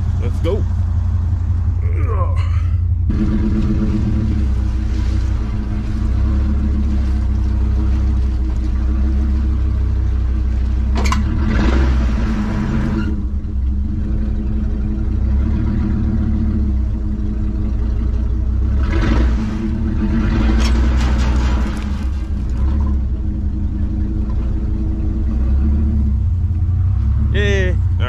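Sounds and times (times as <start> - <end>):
pickup truck engine under load: 0.0 - 28.0.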